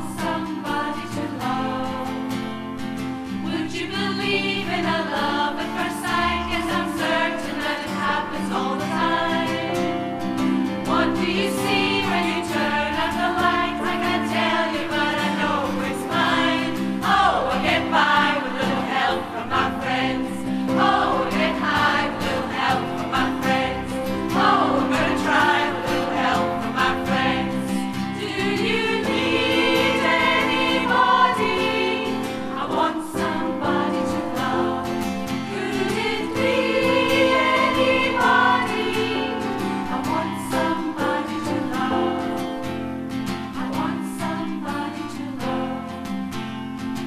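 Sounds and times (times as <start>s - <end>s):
choir singing: 0.0s - 46.2s.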